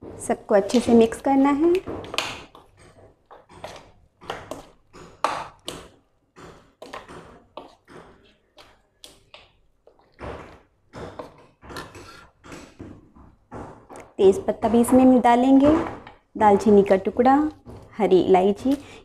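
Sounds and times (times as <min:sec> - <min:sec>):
spoon stirring wet marinade: 0:00.5 - 0:12.8, 0:14.0 - 0:19.0.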